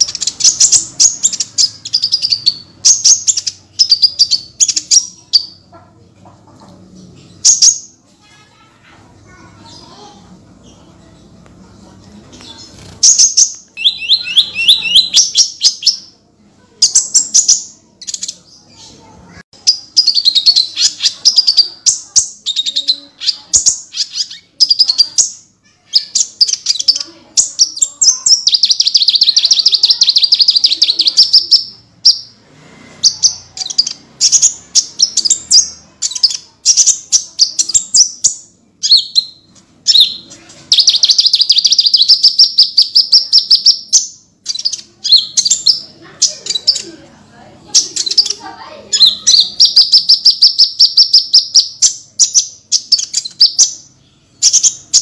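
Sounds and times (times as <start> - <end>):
sunbird chattering song: 0.0 - 5.6, 12.4 - 16.1, 16.8 - 32.3, 33.0 - 46.9, 47.7 - 55.0.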